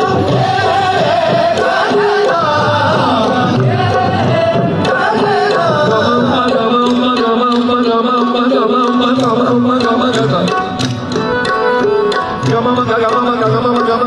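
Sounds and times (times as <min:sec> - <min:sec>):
harmonium: 0:00.0 - 0:14.0
tabla strokes: 0:00.0 - 0:14.0.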